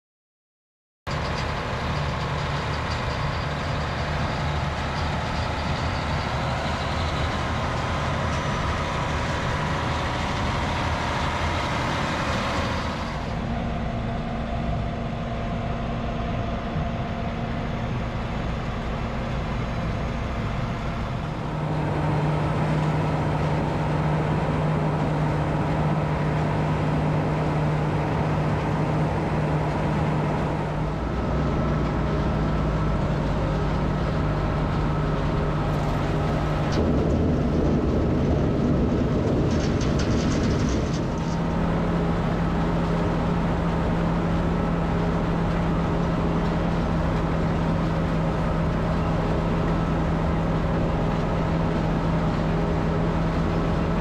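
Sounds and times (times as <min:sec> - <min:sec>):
diesel engines running: 0:01.1 - 0:54.0
steady low hum: 0:03.6 - 0:54.0.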